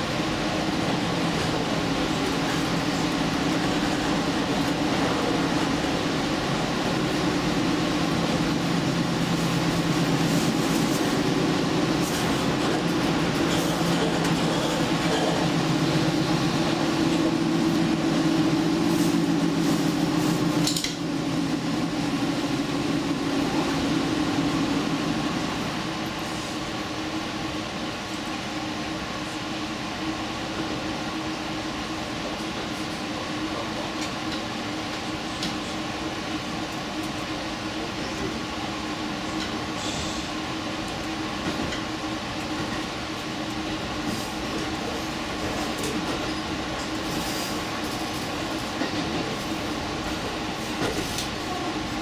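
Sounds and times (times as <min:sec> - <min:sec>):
train engine drone: 0:00.0 - 0:52.0
wheels rumbling on rail: 0:00.0 - 0:52.0.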